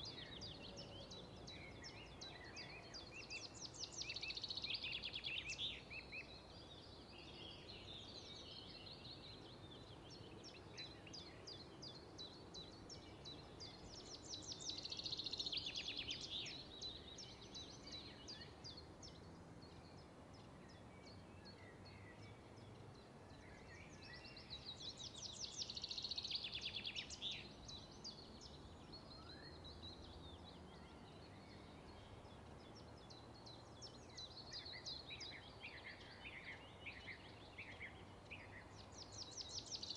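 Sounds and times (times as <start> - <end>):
faint bird chirps: 0.0 - 39.9
songbird trilled song: 0.0 - 39.9.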